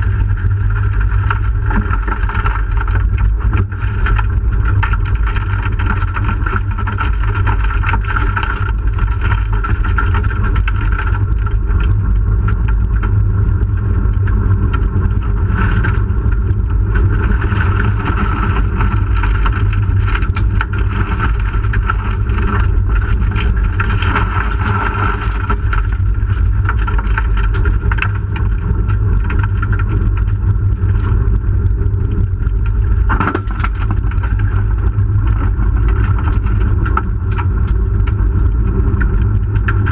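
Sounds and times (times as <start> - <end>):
car engine running hard: 0.0 - 39.9
tyres rumbling on dirt road: 0.0 - 39.9.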